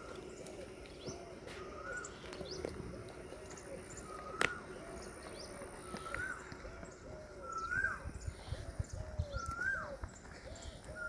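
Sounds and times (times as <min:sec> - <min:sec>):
birds whistling and chirping: 0:00.0 - 0:11.0
doves cooing: 0:00.0 - 0:11.0.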